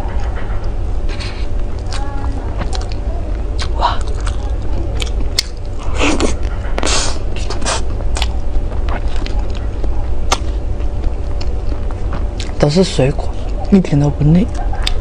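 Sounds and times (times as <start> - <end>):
steady low hum: 0.0 - 15.0
close chewing with mouth clicks: 0.1 - 13.8, 14.4 - 15.0.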